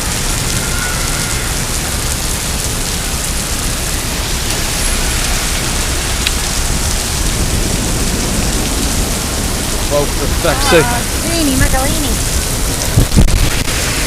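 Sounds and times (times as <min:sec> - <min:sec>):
heavy rain splashing on hard surfaces: 0:00.0 - 0:14.0.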